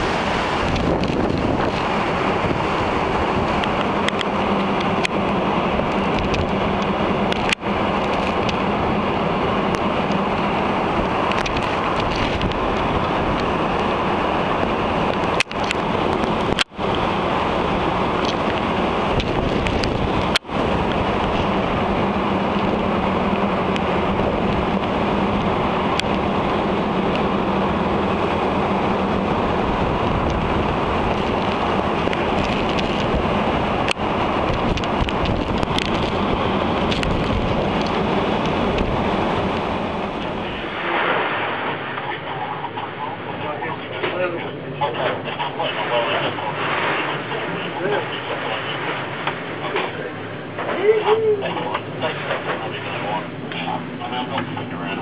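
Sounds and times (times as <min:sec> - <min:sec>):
sea waves breaking: 0:00.0 - 0:55.0
strong wind buffeting microphone: 0:00.0 - 0:55.0.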